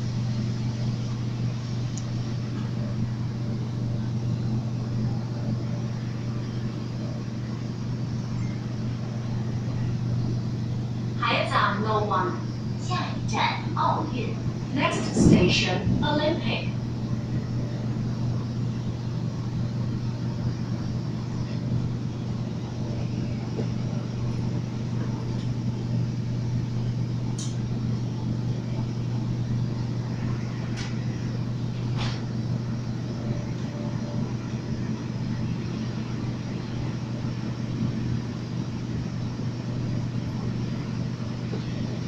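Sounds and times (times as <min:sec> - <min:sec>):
train motors and wheels rumbling: 0:00.0 - 0:42.0.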